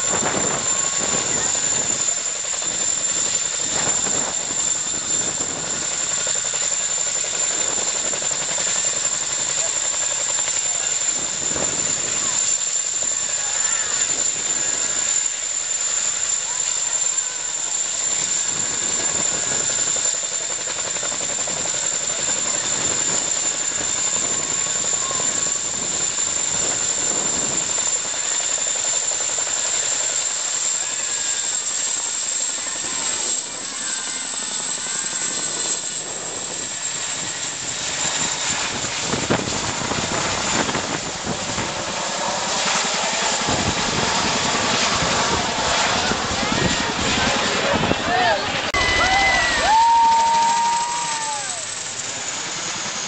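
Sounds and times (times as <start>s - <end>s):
helicopter rotor chop: 0.0s - 53.0s.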